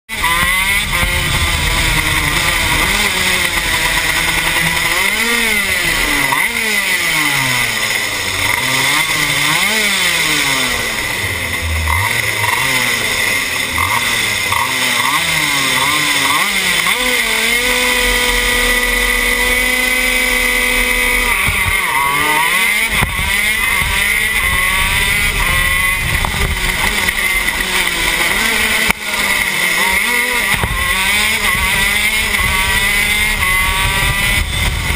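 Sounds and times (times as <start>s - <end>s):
other kart engines: 0.0s - 34.9s
kart engine racing: 0.1s - 34.9s.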